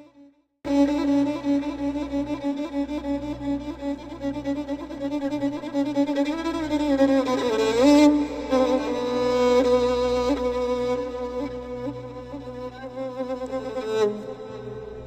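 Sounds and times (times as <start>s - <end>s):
bowed string instrument: 0.0s - 15.0s.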